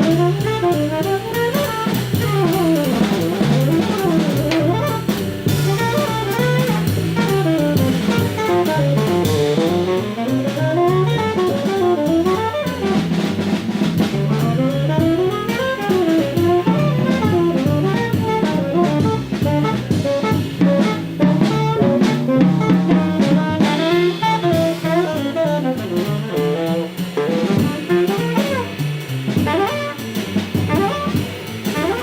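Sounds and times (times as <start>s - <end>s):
double bass: 0.0s - 32.0s
drum kit with cymbals: 0.0s - 32.0s
tenor saxophone: 0.0s - 32.0s.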